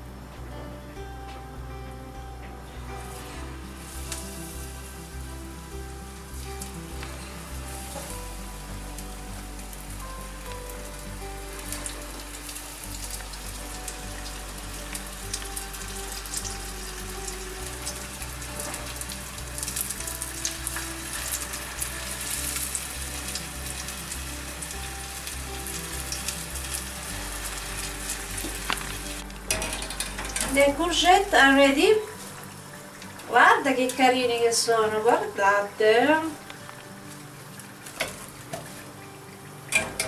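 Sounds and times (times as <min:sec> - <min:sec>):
faint background music: 0:00.0 - 0:40.0
battered food deep-frying in oil: 0:03.0 - 0:40.0.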